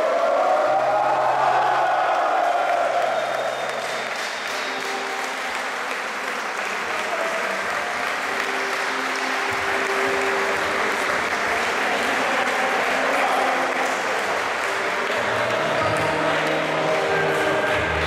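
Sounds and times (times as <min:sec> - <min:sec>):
crowd applauding: 0:00.0 - 0:18.0
faint music: 0:00.0 - 0:18.0.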